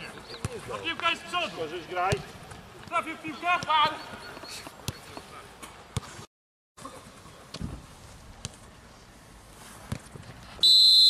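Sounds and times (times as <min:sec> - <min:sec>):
quiet open-air ambience: 0:00.0 - 0:11.0.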